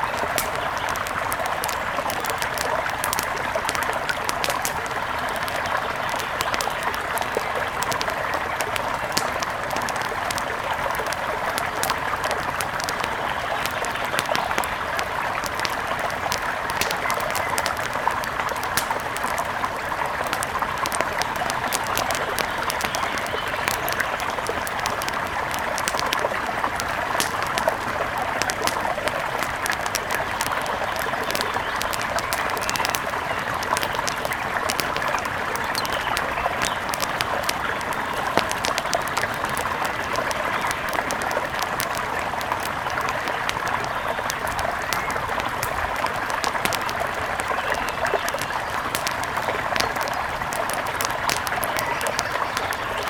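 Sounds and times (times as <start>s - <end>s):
small sharp crackles: 0.0s - 53.0s.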